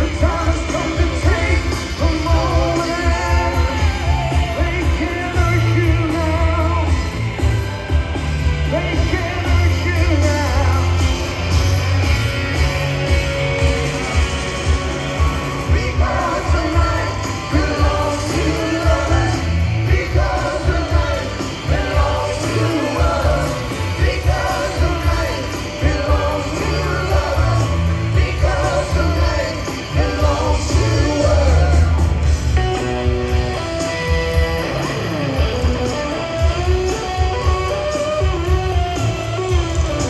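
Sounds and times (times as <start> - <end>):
live rock band playing: 0.0 - 40.0.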